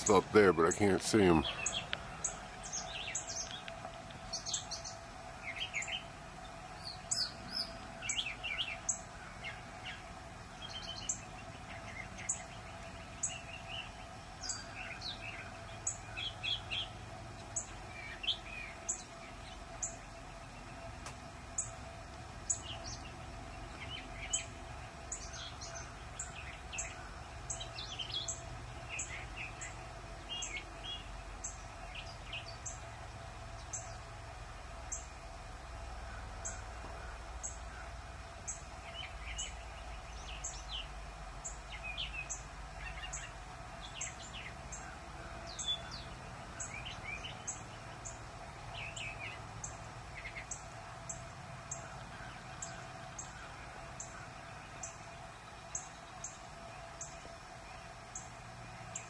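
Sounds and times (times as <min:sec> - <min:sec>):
birds singing and chirping: 0:00.0 - 0:59.0
faint steady hum: 0:00.0 - 0:59.0.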